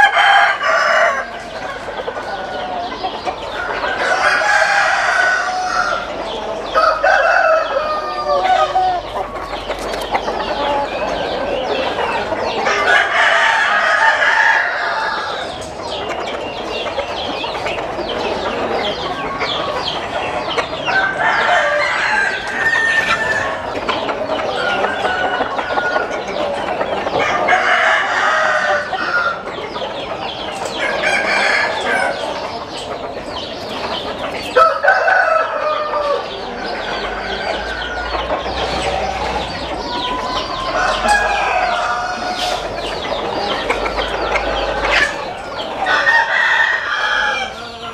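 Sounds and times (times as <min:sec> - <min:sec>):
chickens clucking: 0:00.0 - 0:47.9
roosters crowing: 0:00.0 - 0:47.9.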